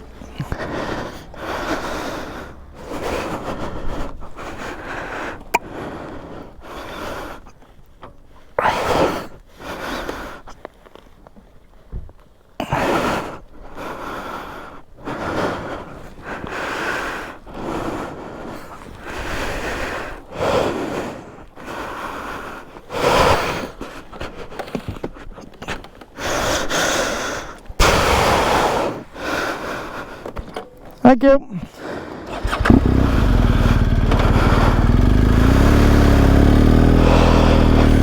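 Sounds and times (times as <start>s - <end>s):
man breathing heavily: 0.0s - 7.8s, 12.6s - 25.1s, 26.2s - 30.6s, 31.6s - 38.0s.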